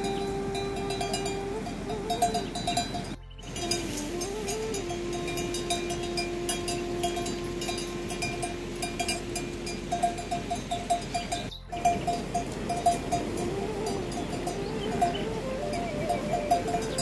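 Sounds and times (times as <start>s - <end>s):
livestock bells clinking: 0.0s - 17.0s.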